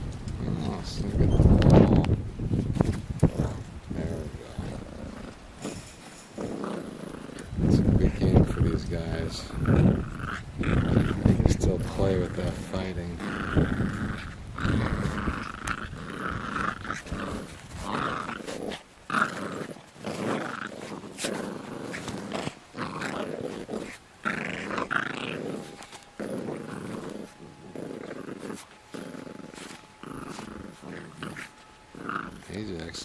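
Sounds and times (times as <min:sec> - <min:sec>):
puppies growling in play: 0:00.3 - 0:33.0.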